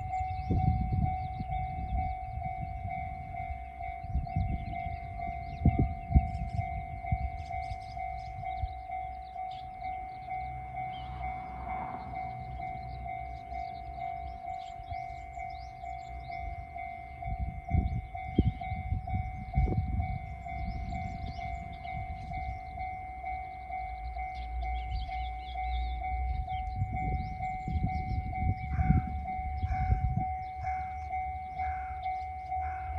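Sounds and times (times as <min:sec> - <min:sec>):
diesel railcar rumbling past: 0:00.0 - 0:32.9
level crossing bell ringing: 0:00.0 - 0:32.9.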